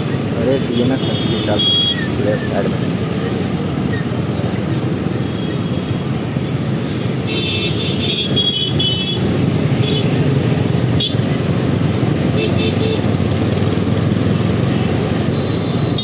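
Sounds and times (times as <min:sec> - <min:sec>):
motorbike and scooter engines: 0:00.0 - 0:16.0.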